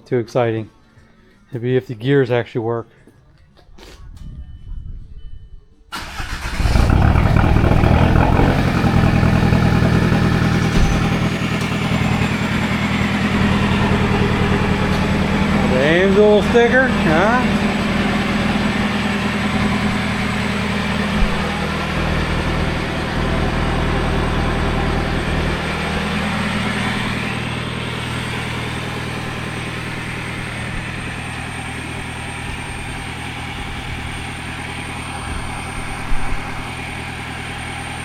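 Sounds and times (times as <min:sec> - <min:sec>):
car engine idling: 0:05.9 - 0:38.0.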